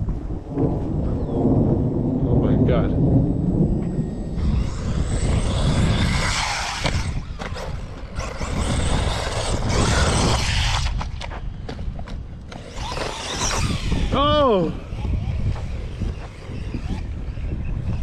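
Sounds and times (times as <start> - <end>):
wind buffeting microphone: 0.0 - 18.0
rc car driving on dirt: 3.3 - 18.0.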